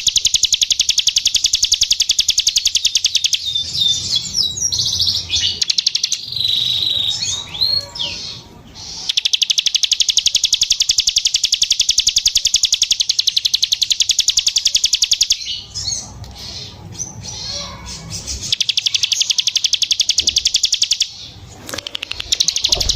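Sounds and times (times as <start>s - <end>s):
bird chirps: 0.0s - 22.9s
bird singing buzzy trills: 0.0s - 22.9s.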